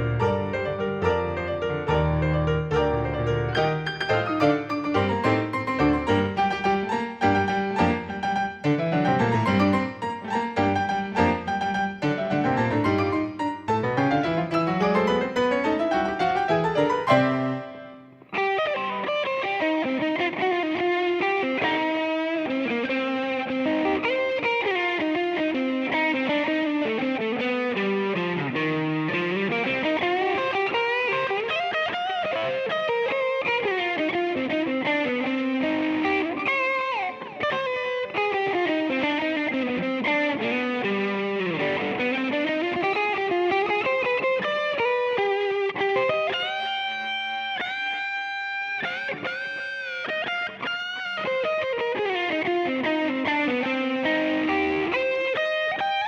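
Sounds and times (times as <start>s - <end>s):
instrumental guitar music: 0.0s - 56.0s.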